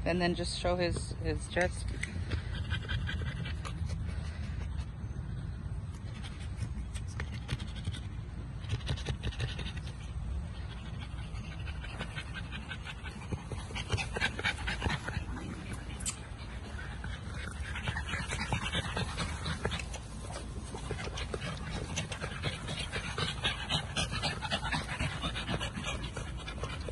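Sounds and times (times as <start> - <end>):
puppy panting: 0.1 - 26.9.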